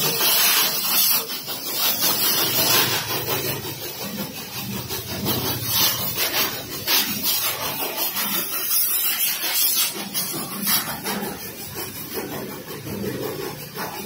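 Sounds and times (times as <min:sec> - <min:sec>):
pressure washer jet spraying: 0:00.0 - 0:14.0.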